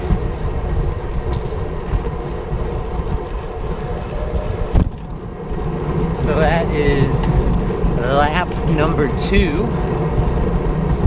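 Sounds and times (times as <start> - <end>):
bicycle road rumble: 0.0 - 11.0
wind buffeting microphone: 0.0 - 11.0.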